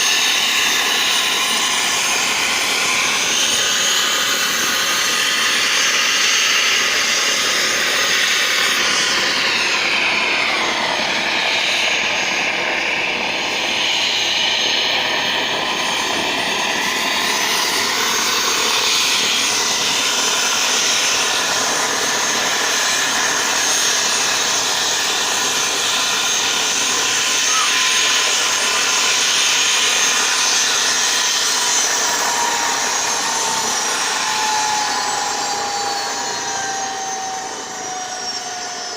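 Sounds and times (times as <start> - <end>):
helicopter engine and rotor whine: 0.0 - 38.9.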